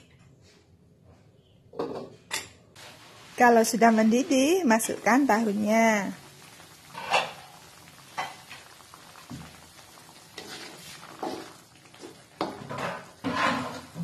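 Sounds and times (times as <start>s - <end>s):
sauce bubbling in a wok: 2.8s - 14.0s.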